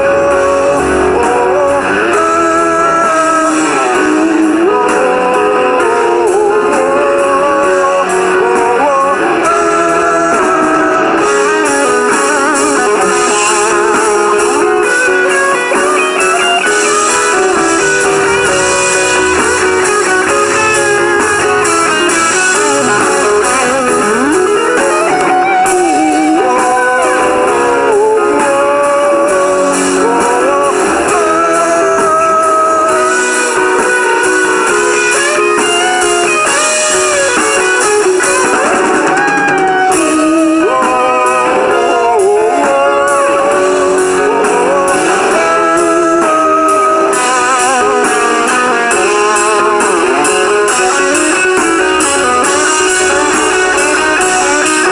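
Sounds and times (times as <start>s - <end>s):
lead guitar melody: 0.0s - 54.9s
rock band accompaniment: 0.0s - 54.9s.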